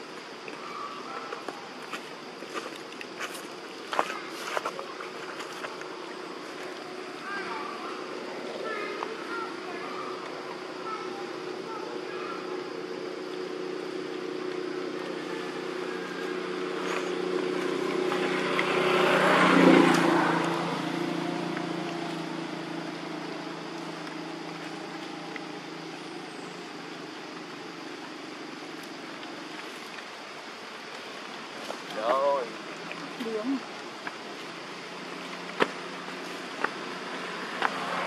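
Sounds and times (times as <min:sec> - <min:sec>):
vehicle engine hum passing: 0:04.2 - 0:31.6, 0:32.6 - 0:38.0.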